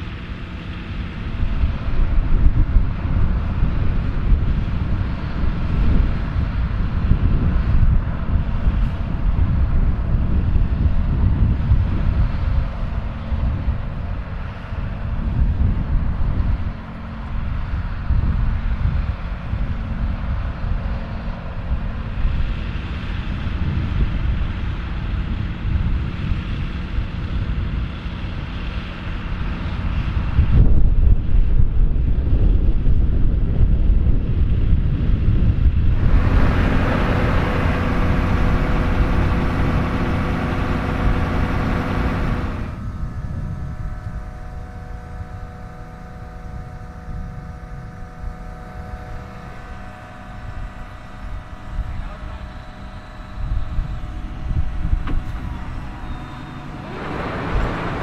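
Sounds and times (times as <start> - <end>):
steady machine whine: 0.0 - 58.0
tractor diesel engines running: 0.0 - 58.0
wind rumbling on microphone: 0.0 - 58.0.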